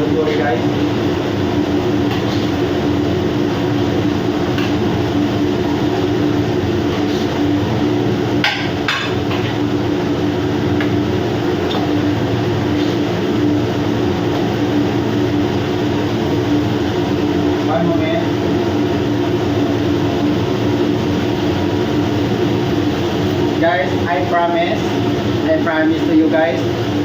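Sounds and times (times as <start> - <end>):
machinery drone: 0.0 - 27.0.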